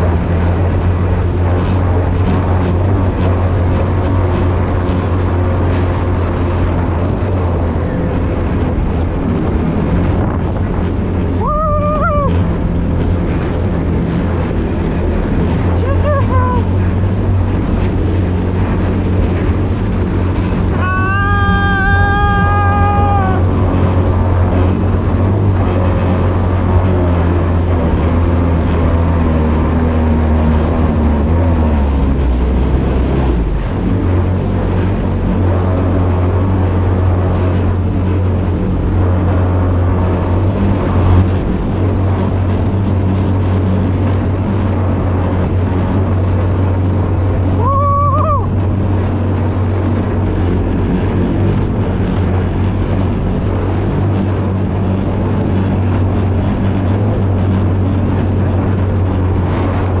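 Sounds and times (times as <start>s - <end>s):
jet kayak engine humming: 0.0s - 60.0s
water rushing: 0.0s - 60.0s.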